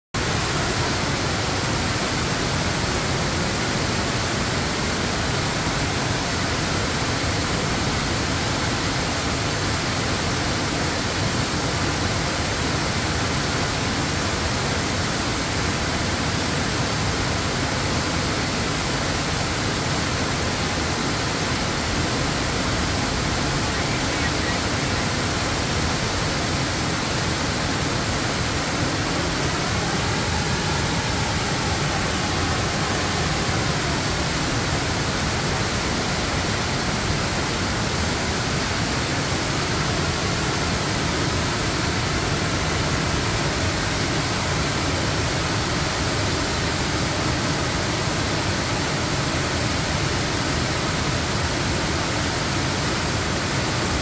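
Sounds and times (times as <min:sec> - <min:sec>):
waterfall rushing: 0:00.2 - 0:54.0.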